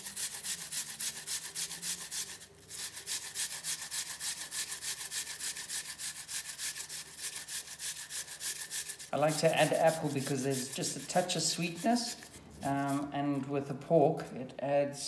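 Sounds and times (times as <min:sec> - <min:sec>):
apple grated on metal grater: 0:00.0 - 0:13.5.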